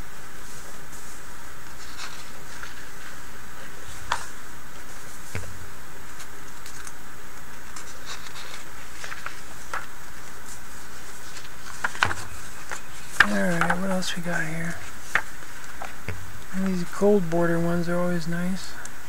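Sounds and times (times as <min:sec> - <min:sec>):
steady background hiss: 0:00.0 - 0:19.0
glossy catalog pages turning: 0:01.6 - 0:17.5.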